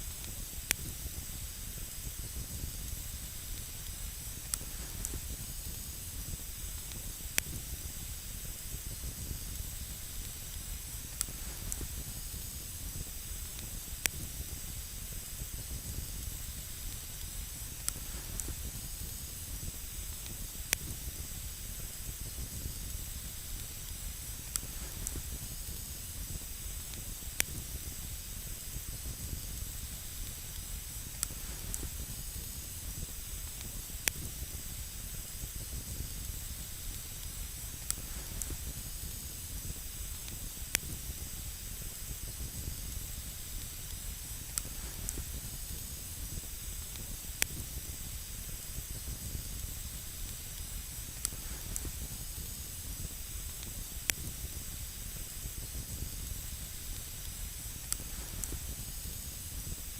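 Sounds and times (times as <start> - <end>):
campfire burning: 0.0 - 59.9
sharp fire crackles: 0.0 - 59.9.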